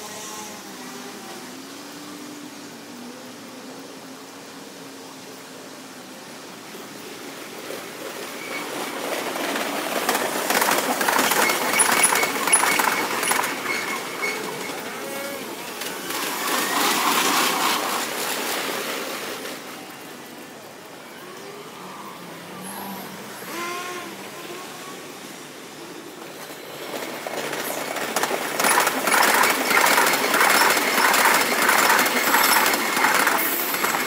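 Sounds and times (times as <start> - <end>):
electric trains passing: 0.0 - 34.0.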